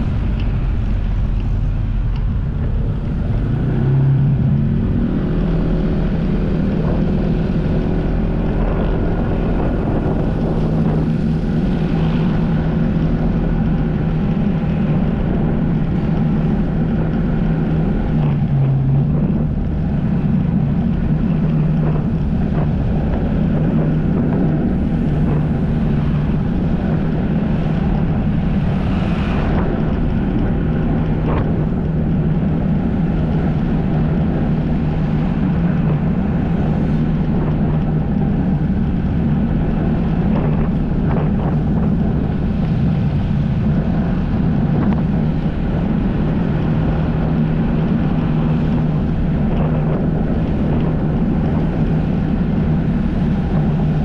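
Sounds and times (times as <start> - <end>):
jet ski engine running: 0.0 - 54.0
wind buffeting microphone: 0.0 - 54.0.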